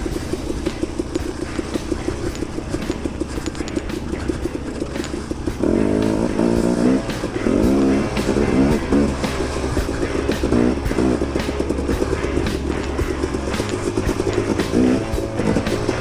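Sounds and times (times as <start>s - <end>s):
dirt bike engine at low revs: 0.0s - 16.0s
loud sound with wavering pitch: 0.0s - 16.0s.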